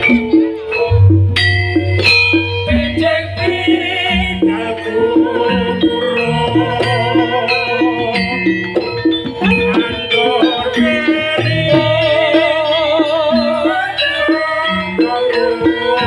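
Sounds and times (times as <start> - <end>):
drum and percussion ensemble: 0.0 - 16.0
melody with wavering vibrato: 0.0 - 16.0.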